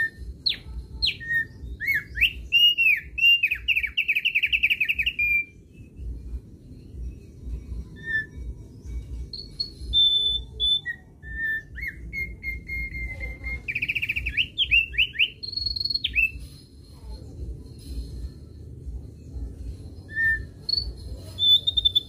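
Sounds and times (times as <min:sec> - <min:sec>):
bird singing whistled notes: 0:00.0 - 0:16.8, 0:19.1 - 0:22.0
steady low rumble: 0:00.0 - 0:22.0.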